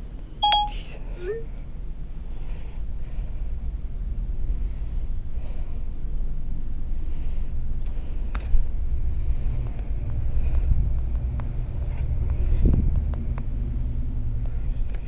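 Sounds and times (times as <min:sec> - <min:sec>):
low steady rumble: 0:00.0 - 0:15.0
person breathing faintly: 0:00.9 - 0:14.9.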